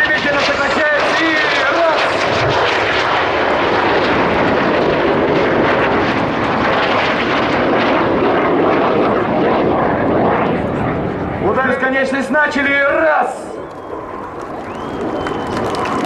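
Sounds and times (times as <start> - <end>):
jets passing low: 0.0 - 16.0.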